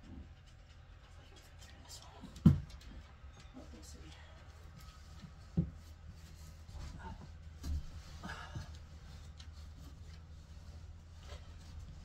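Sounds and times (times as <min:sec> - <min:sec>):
faint knocks and shuffles: 0:00.0 - 0:12.0.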